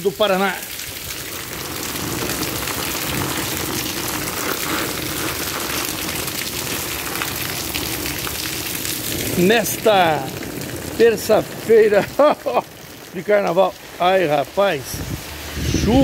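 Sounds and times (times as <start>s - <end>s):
rain on tiles: 0.0s - 16.0s.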